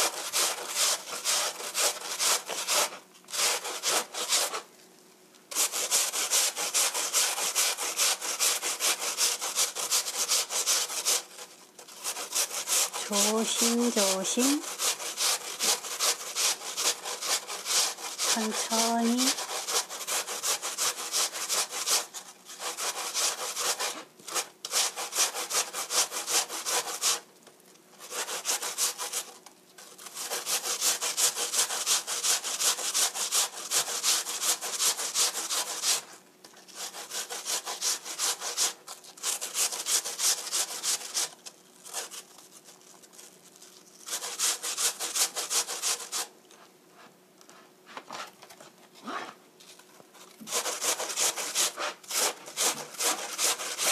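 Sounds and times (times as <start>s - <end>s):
apple grated on metal grater: 0.0s - 4.7s, 5.5s - 27.3s, 28.0s - 46.3s, 50.2s - 53.9s.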